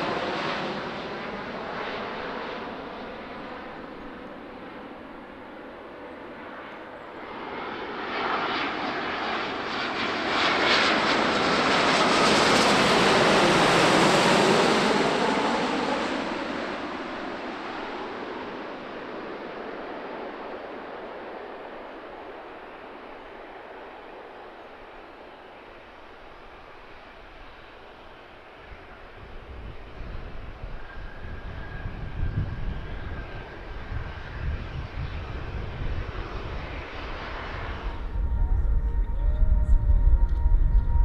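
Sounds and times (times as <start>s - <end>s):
airliner flying past: 0.0s - 41.0s.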